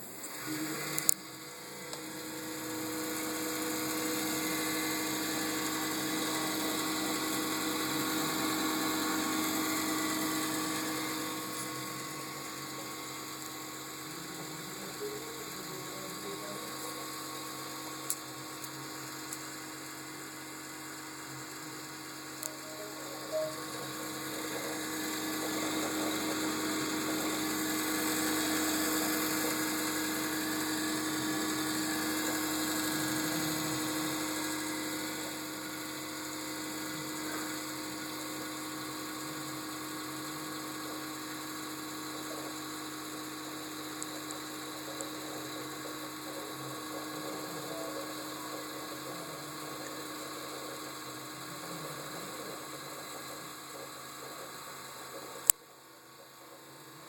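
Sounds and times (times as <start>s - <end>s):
desktop computer whirring hum: 0.0s - 57.0s.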